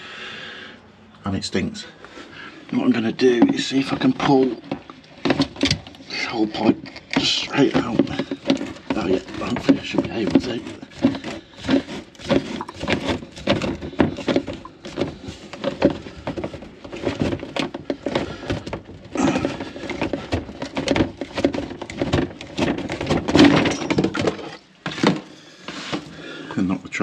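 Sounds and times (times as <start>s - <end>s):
plastic pipe knocking and scraping: 2.7s - 26.4s.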